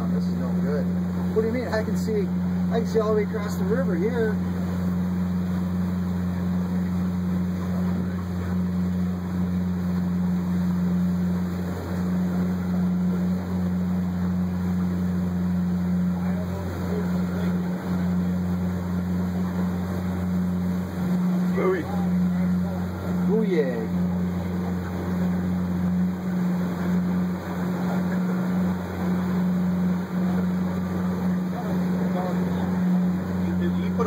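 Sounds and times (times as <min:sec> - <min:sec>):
boat engine droning: 0:00.0 - 0:34.0
water wash and air rushing: 0:00.0 - 0:34.0.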